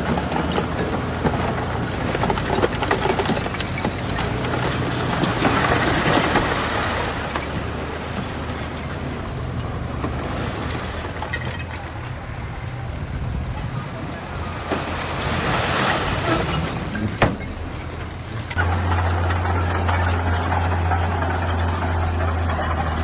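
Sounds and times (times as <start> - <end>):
clattering and scraping: 0.0 - 12.5, 14.6 - 23.0
heavy machinery diesel engine: 0.0 - 23.0.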